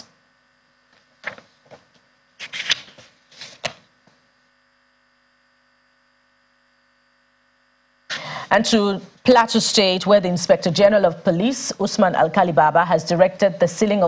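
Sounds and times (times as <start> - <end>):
electrical hum with buzz: 0.0 - 14.0.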